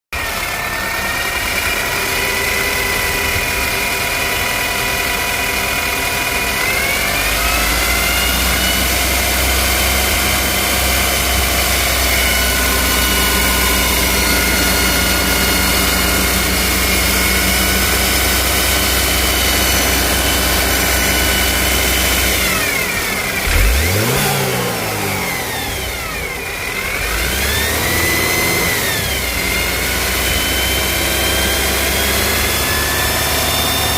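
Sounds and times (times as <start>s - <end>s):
car engine running: 0.2s - 33.9s
high-pitched engine whistle: 0.2s - 33.9s.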